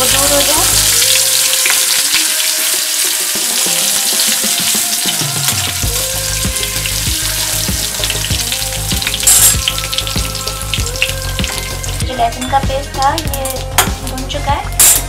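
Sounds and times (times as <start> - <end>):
garlic sizzling in oil: 0.0 - 15.0.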